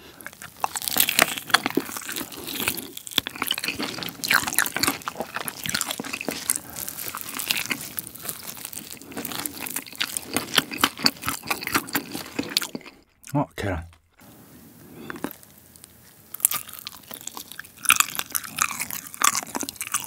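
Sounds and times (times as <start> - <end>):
wet chewing mouth sounds: 0.0 - 13.3, 16.3 - 20.0
crunchy chicken biting: 0.1 - 13.0, 16.3 - 20.0.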